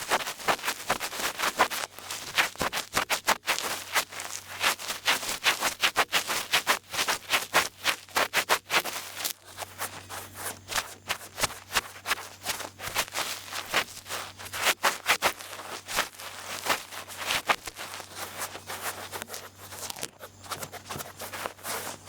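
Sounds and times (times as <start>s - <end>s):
ear pick scraping in ear: 0.0s - 22.0s
faint low hum: 0.0s - 22.0s.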